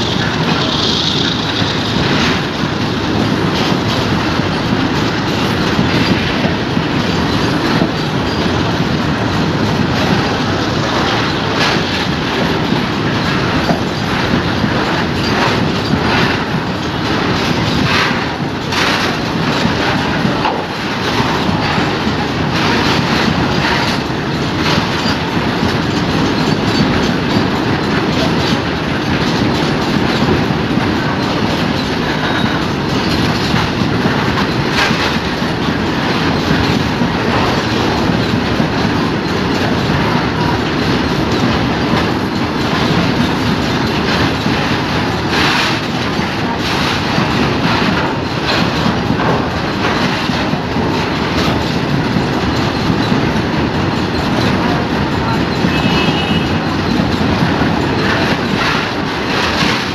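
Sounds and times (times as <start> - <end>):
clickety-clack over rail joints: 0.0 - 59.9
steel wheels rumbling on rail: 0.0 - 59.9.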